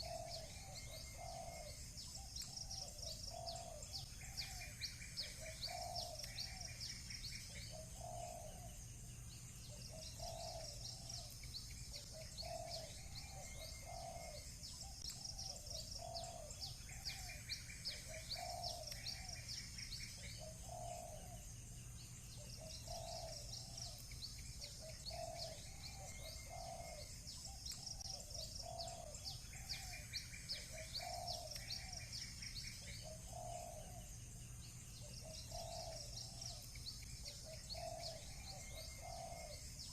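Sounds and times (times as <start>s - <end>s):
doves cooing: 0.0s - 8.8s, 9.7s - 21.5s, 22.3s - 34.2s, 35.0s - 39.9s
small birds chirping: 0.0s - 39.9s.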